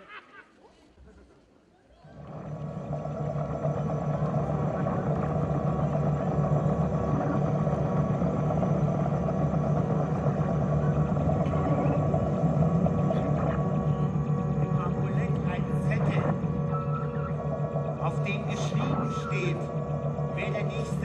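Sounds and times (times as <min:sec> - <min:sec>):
low electronic drone: 0:02.1 - 0:21.0.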